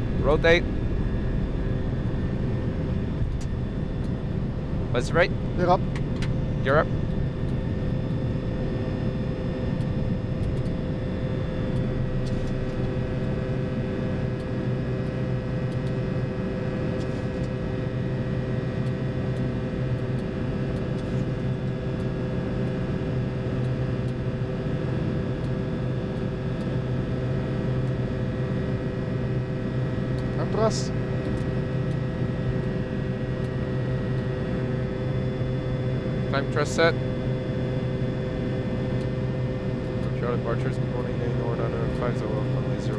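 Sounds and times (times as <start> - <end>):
jet engine and airflow rumble: 0.0 - 42.9
steady hum tones: 0.0 - 42.9.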